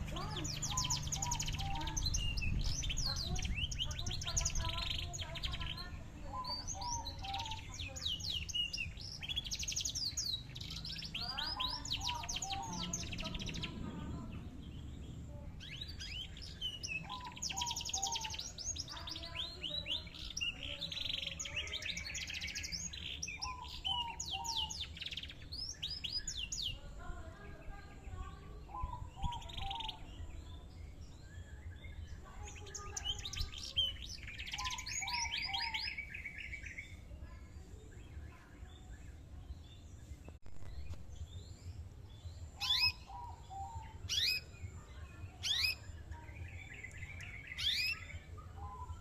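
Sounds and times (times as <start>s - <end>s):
canary singing trills: 0.0s - 49.0s.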